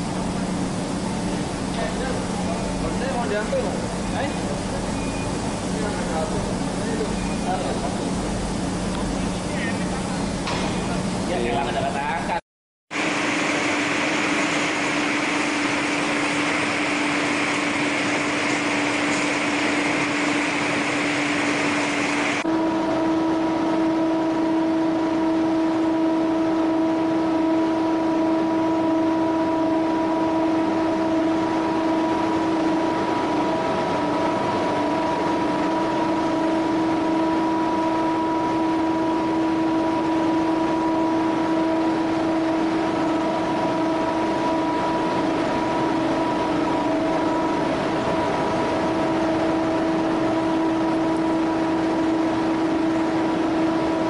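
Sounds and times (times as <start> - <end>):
vacuum loader droning whine: 0.0 - 54.0.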